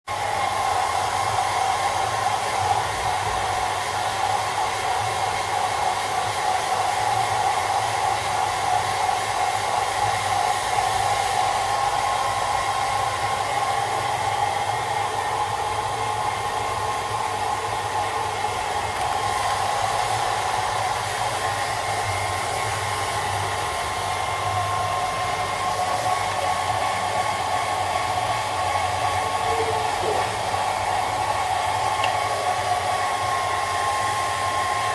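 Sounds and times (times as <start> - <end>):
hair dryer running: 0.1 - 34.9.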